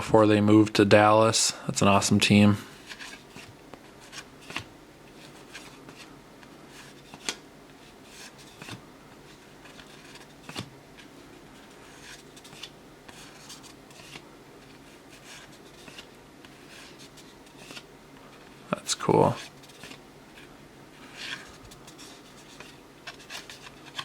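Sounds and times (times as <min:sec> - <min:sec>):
cards sliding and rubbing: 0:02.8 - 0:06.1, 0:06.7 - 0:24.0.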